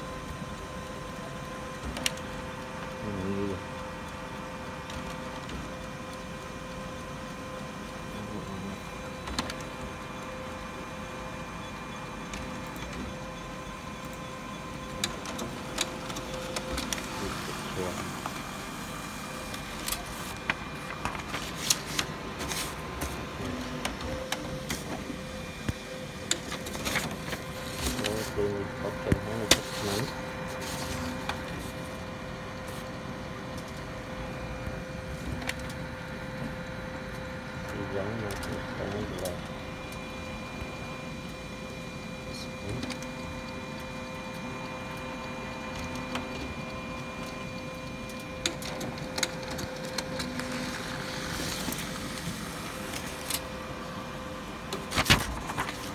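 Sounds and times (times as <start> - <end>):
laser printer humming: 0.0 - 55.9.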